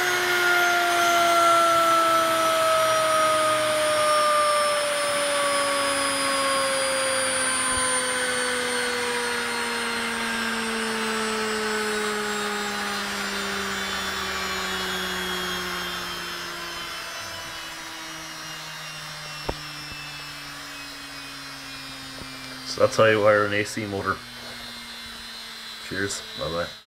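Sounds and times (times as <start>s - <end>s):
motor whine spinning down: 0.0s - 26.9s.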